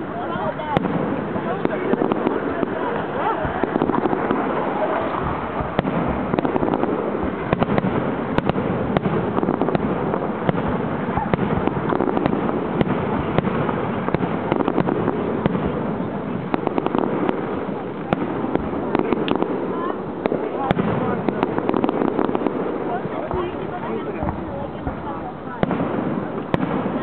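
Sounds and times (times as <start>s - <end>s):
fireworks cracks and pops: 0.0s - 27.0s
rumbling wash: 0.0s - 27.0s.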